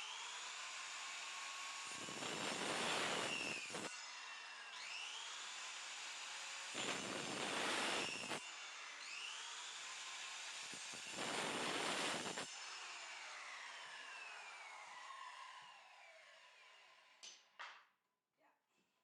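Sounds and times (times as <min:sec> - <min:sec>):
power tool cutting wood: 0:00.0 - 0:17.2.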